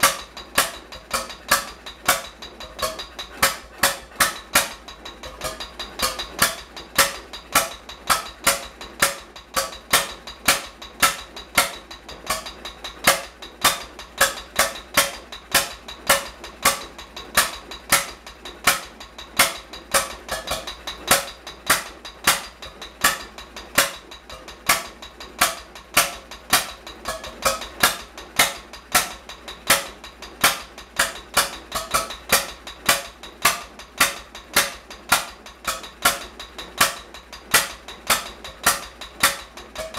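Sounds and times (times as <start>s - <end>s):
metallic clatter of engine parts: 0.0s - 39.9s
stationary engine exhaust beats: 0.0s - 39.9s.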